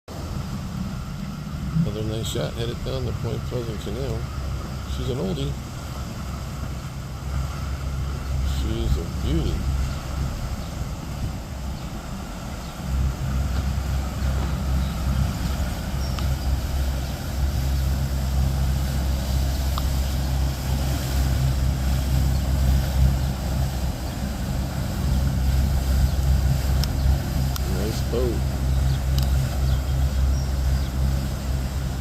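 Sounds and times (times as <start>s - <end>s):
boat engines droning: 0.1s - 32.0s.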